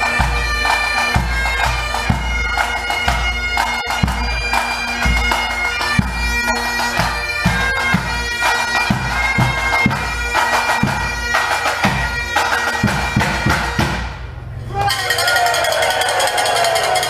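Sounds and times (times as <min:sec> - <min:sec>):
bagpipes playing melody: 0:00.0 - 0:14.0
drum beating: 0:00.0 - 0:17.0.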